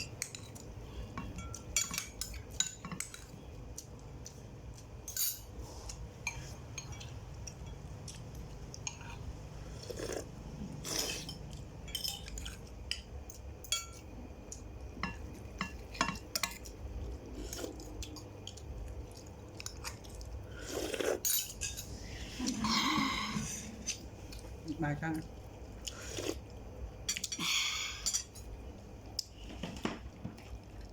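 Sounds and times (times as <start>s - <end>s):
low background hum: 0.0s - 30.9s.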